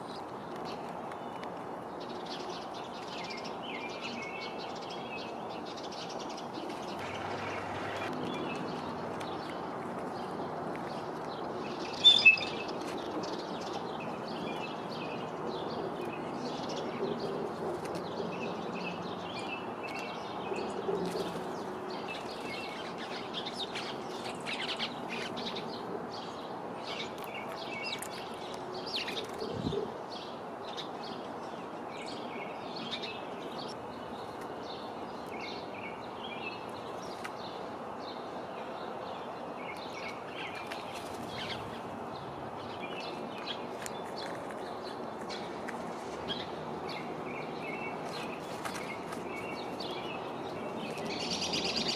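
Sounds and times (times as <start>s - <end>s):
outdoor background noise: 0.0s - 51.9s
small birds chirping: 0.0s - 51.9s.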